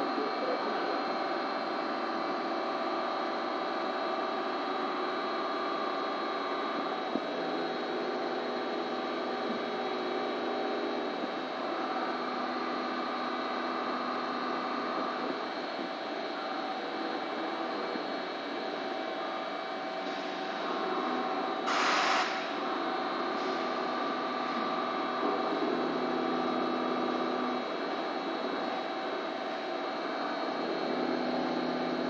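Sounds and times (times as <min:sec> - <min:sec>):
welding machine hum: 0:00.0 - 0:32.0.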